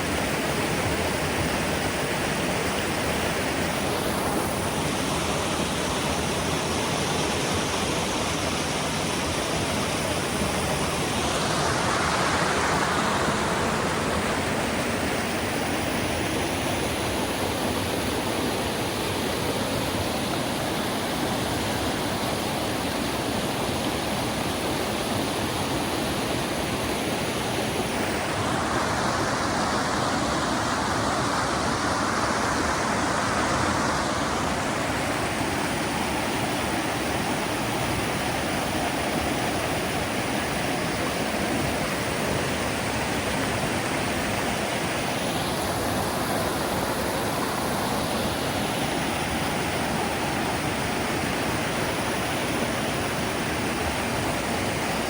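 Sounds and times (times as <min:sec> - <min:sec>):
river rapids rushing: 0:00.0 - 0:55.0.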